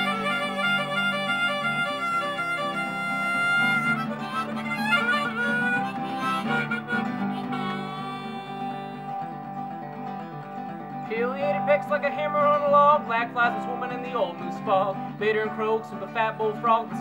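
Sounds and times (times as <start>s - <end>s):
harmonica melody: 0.0s - 14.9s
acoustic guitar chords: 0.0s - 17.0s.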